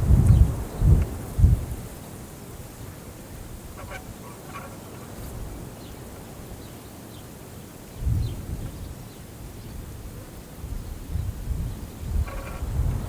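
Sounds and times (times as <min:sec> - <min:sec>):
wind across grass: 0:00.0 - 0:13.0.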